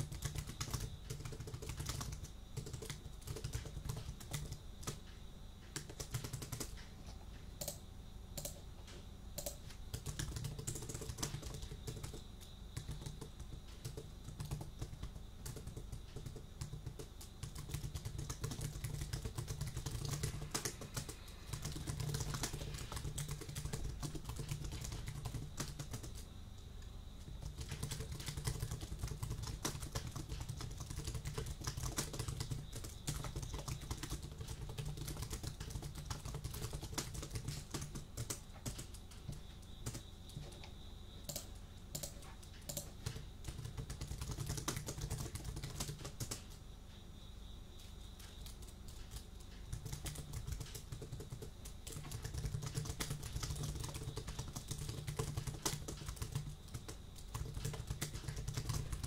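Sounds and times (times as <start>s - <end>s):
typing on computer keyboard: 0.0s - 7.8s, 8.4s - 46.6s, 47.8s - 59.0s.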